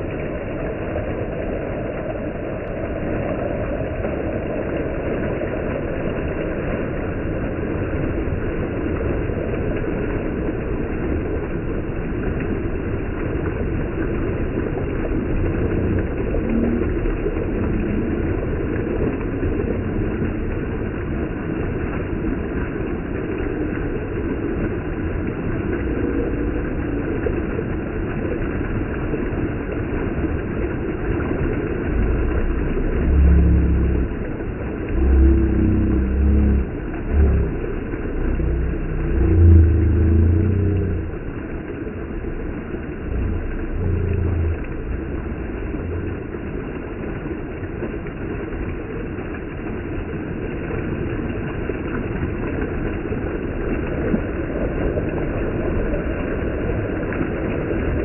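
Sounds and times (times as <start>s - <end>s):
low rumbles: 0.0s - 48.8s
stream water splashing over rocks: 0.0s - 58.0s.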